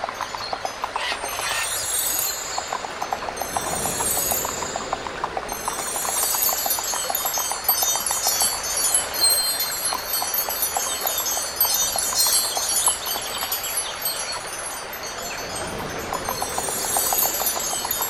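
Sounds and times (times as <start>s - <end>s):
glittering chimes: 0.5s - 18.0s.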